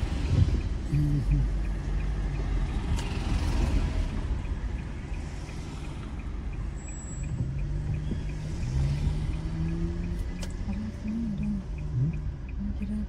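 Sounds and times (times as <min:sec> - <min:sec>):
engine and road rumble: 0:00.0 - 0:13.0
turn signal ticking: 0:00.0 - 0:13.0.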